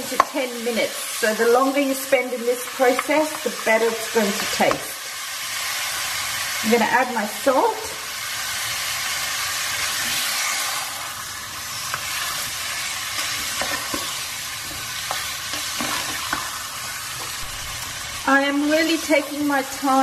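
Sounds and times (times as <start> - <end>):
meat sizzling in a pot: 0.0 - 20.0.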